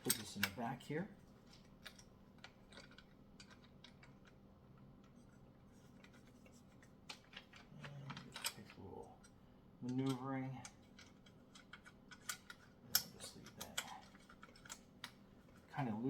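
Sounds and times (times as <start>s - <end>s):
light clicks of parts handled: 0.0s - 0.7s, 1.3s - 4.4s, 5.0s - 16.0s.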